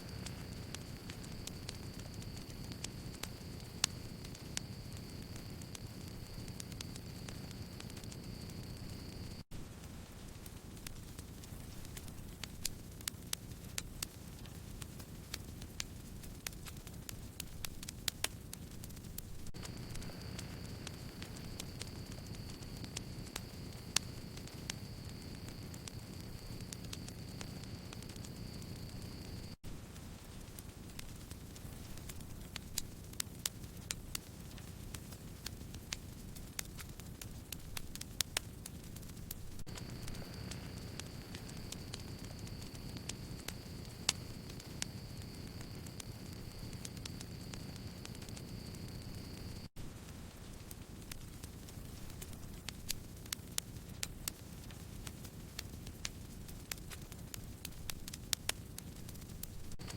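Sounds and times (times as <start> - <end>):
low rumble of flames: 0.0 - 59.9
wood crackling and popping: 0.1 - 59.9.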